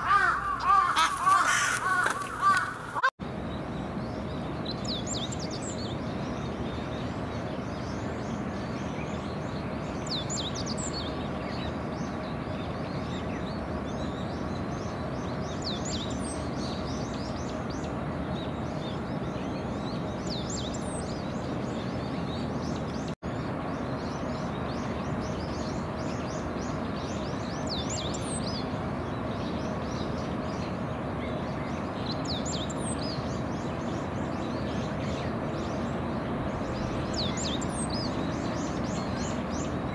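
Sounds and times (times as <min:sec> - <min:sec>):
distant city hum: 0:00.0 - 0:39.9
small birds chirping: 0:00.0 - 0:39.9.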